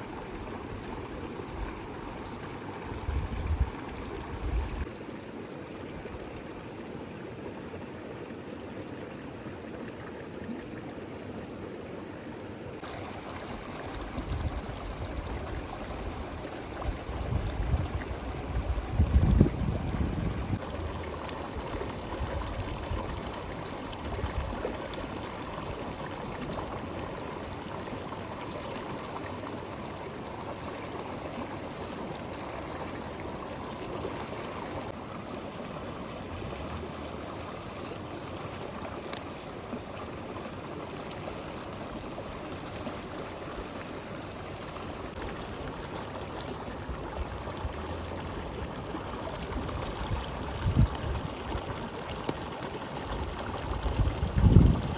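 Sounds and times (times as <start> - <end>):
river flowing: 0.0 - 54.9.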